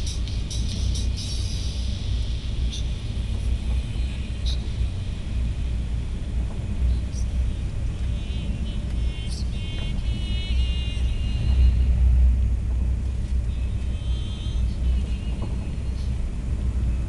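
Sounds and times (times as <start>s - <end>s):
thin high whine: 0.0s - 17.0s
train deep rumble: 0.0s - 17.0s.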